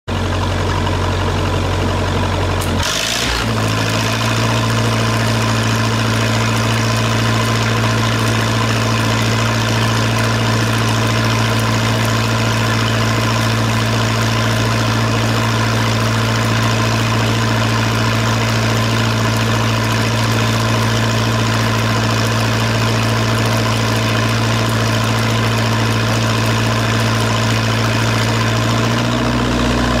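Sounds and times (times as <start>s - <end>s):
heavy engine running: 0.1s - 30.0s.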